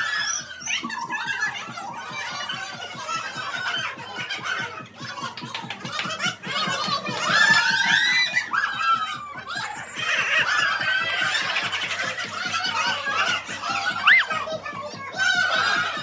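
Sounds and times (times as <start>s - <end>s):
people laughing and shouting: 0.0s - 16.0s.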